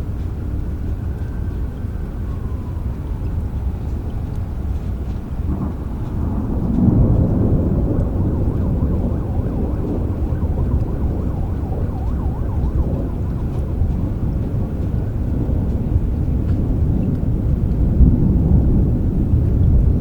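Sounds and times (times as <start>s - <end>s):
steady rain: 0.0s - 20.0s
low rolling thunder: 0.6s - 20.0s.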